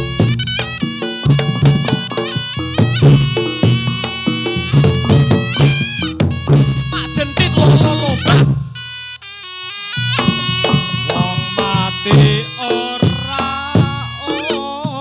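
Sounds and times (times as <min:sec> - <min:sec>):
drums and gongs beat: 0:00.0 - 0:08.8, 0:10.1 - 0:15.0
reedy shawm melody: 0:00.0 - 0:15.0.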